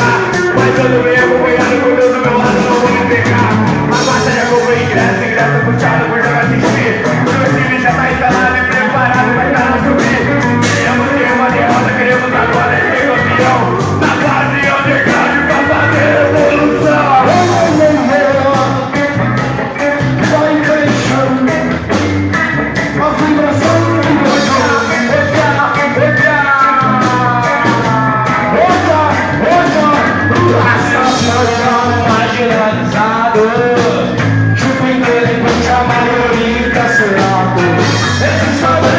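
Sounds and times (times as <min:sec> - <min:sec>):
live heavy rock band: 0:00.0 - 0:38.9
person singing: 0:00.0 - 0:38.9.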